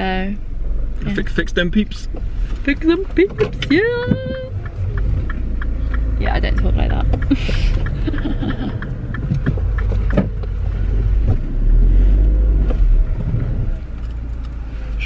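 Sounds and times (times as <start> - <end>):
car engine: 0.0 - 15.0
low road rumble: 0.0 - 15.0.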